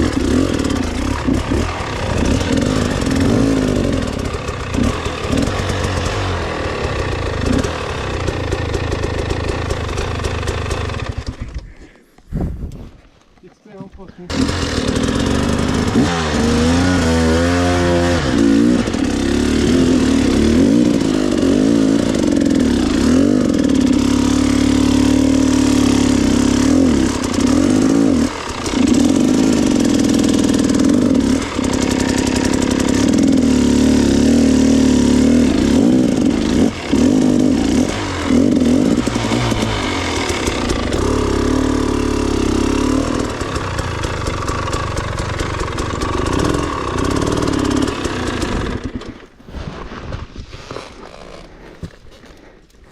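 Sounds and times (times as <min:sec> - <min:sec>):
motorcycle engine revving: 0:00.0 - 0:11.7, 0:14.3 - 0:49.4.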